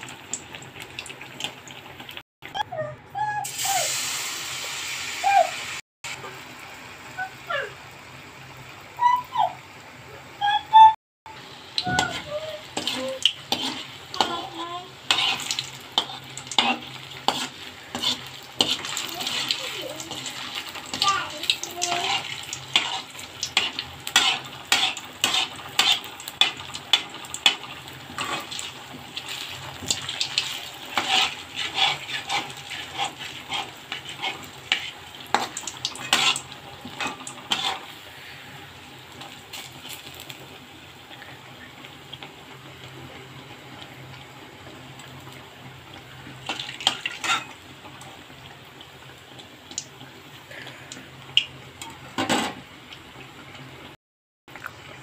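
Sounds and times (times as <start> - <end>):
oil sizzling: 0.0 - 2.2, 3.4 - 10.6, 11.3 - 55.0.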